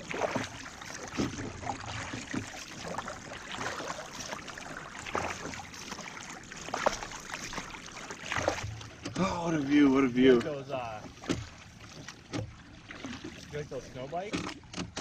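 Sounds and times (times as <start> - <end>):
canoe paddles splashing in water: 0.0 - 15.0
water trickling off paddles: 0.0 - 15.0.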